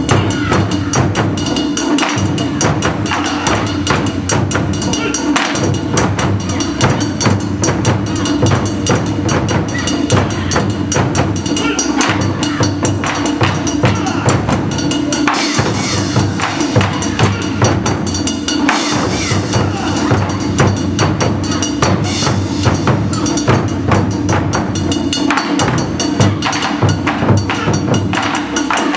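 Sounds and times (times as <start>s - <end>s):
taiko drums playing fast: 0.0s - 28.9s.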